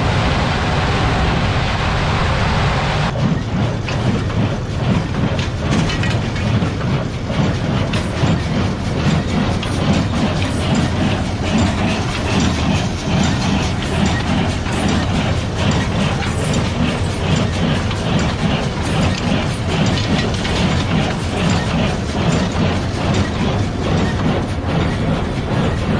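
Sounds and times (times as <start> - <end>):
farm machinery clattering: 3.1 - 25.9.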